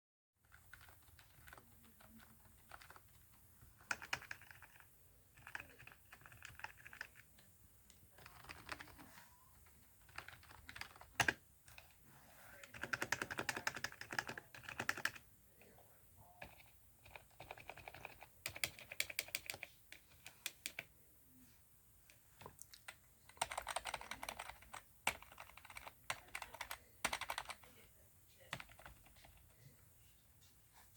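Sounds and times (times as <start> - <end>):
keyboard typing: 0.5 - 12.0, 12.6 - 15.2, 16.4 - 20.9, 22.4 - 27.6, 28.4 - 29.7.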